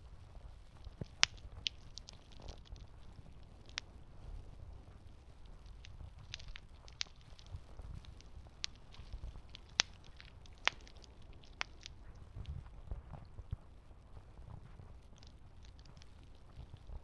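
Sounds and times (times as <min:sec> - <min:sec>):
campfire crackling and popping: 0:00.6 - 0:13.6, 0:14.6 - 0:17.0.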